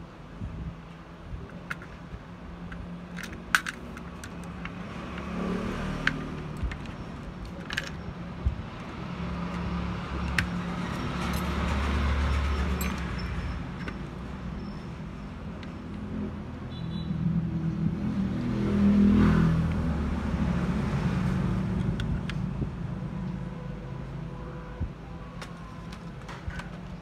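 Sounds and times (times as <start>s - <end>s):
passing road traffic rumble: 0.0s - 27.0s.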